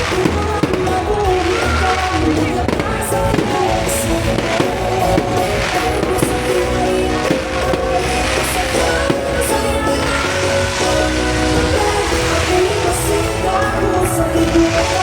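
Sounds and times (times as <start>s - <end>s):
fireworks bangs and crackles: 0.0s - 15.0s
loud music with deep bass: 0.0s - 15.0s.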